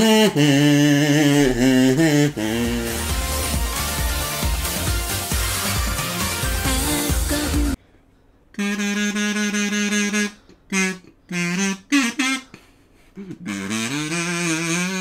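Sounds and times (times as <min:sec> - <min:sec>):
kazoo melody: 0:00.0 - 0:07.8, 0:08.5 - 0:15.0.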